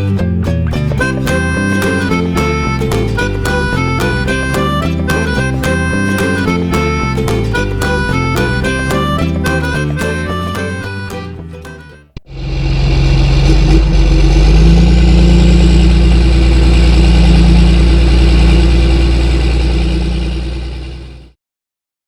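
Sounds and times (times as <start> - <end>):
engine running: 0.0 - 21.4.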